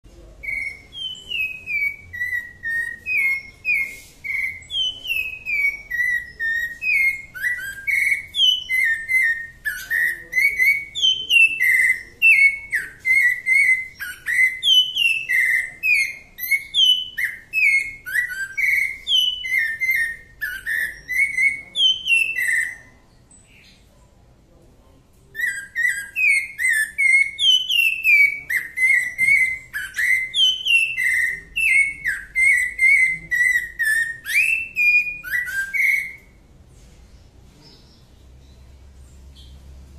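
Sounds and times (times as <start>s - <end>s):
thrush singing whistled notes: 0.4s - 22.9s, 25.4s - 36.4s.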